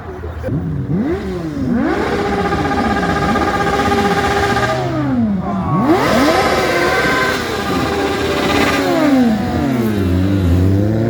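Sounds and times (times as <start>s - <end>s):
car engine revving: 0.4s - 11.0s.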